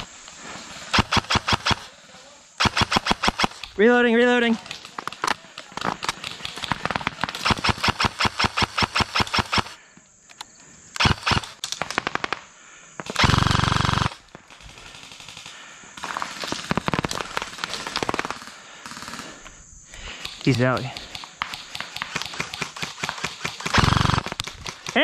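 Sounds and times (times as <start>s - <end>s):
airsoft guns firing: 0.9s - 1.9s, 2.6s - 3.8s, 4.6s - 9.8s, 11.0s - 19.4s, 20.1s - 25.0s.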